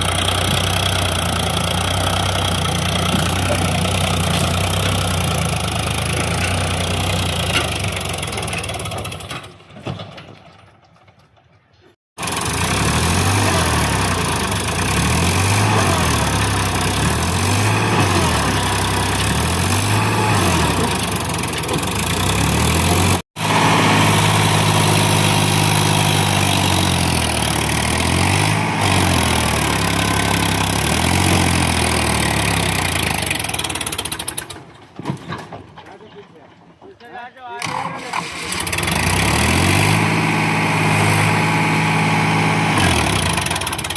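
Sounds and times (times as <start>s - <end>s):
tractor engine revving: 0.0s - 11.1s, 12.2s - 35.0s, 37.5s - 43.9s.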